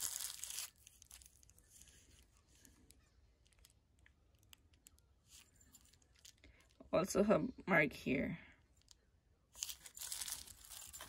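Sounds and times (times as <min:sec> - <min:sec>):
bubble wrap crinkling: 0:00.0 - 0:06.8, 0:08.7 - 0:11.0.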